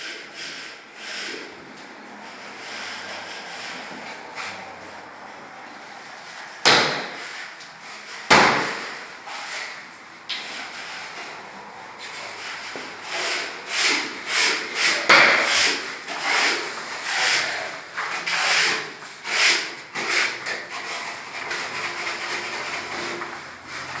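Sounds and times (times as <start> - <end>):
rubbing on a hard surface: 0.0 - 24.0.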